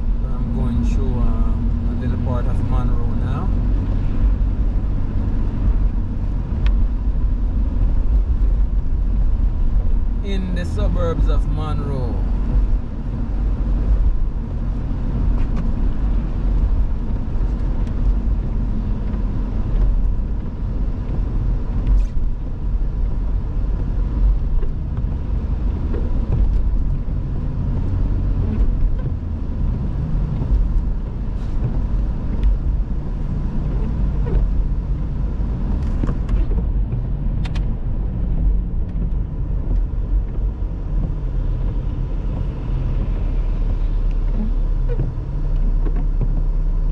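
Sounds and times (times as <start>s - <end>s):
car engine and tyre rumble: 0.0s - 46.9s.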